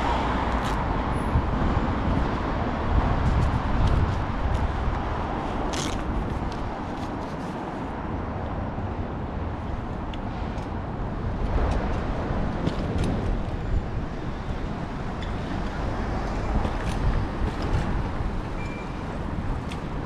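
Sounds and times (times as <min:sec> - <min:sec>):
road and traffic rumble: 0:00.0 - 0:20.0
wind on microphone: 0:00.0 - 0:20.0.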